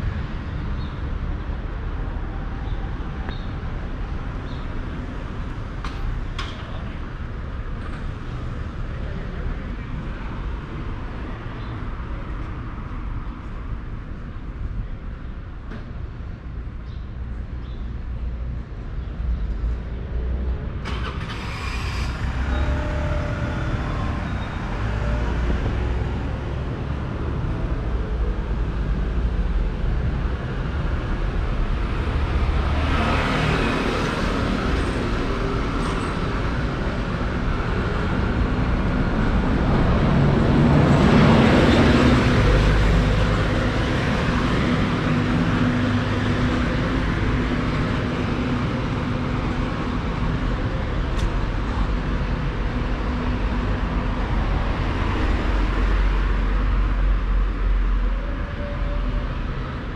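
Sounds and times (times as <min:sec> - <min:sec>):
road traffic rumble: 0:00.0 - 0:59.9
vehicles passing close by: 0:00.0 - 0:59.9.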